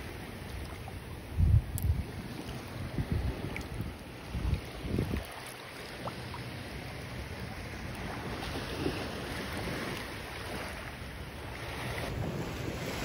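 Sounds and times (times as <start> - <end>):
gentle surf washing over sand: 0.0 - 13.0.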